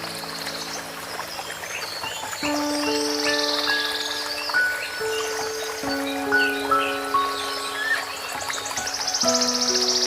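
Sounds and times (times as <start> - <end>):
relaxing music of held notes: 0.0 - 10.0.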